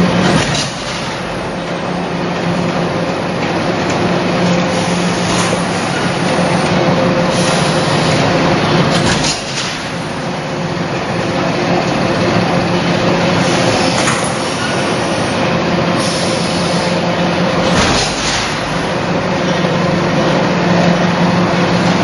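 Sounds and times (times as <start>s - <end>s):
factory machinery hum: 0.0s - 22.0s.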